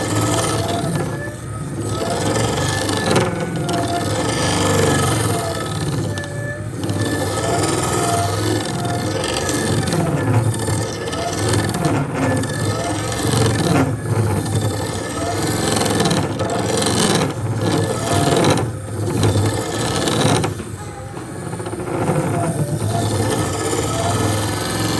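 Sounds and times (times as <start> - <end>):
power tool rasping on wood: 0.0 - 24.9.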